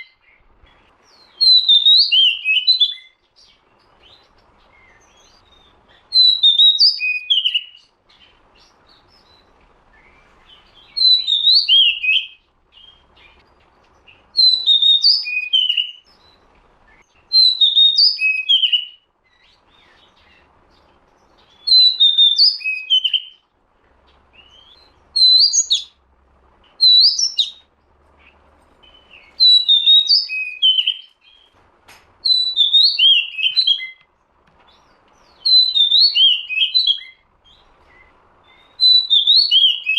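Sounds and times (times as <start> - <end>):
bird whistled song phrases: 0.0 - 23.4, 24.3 - 26.0, 26.6 - 31.6, 32.2 - 34.1, 34.7 - 39.9.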